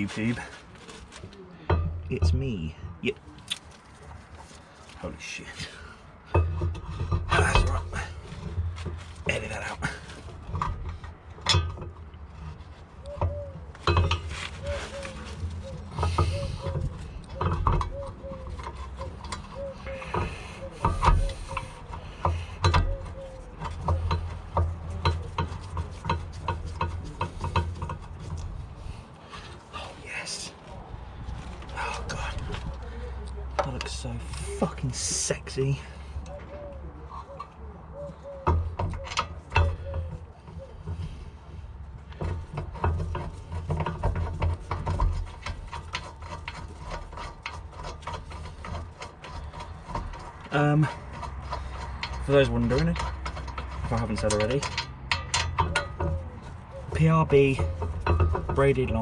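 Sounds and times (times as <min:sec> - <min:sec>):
hand tools clicking and scraping: 0:00.0 - 0:59.0.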